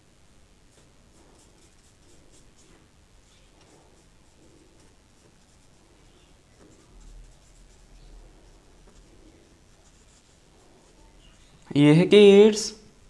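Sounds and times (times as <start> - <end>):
paintbrush strokes on paper: 0.7 - 11.6.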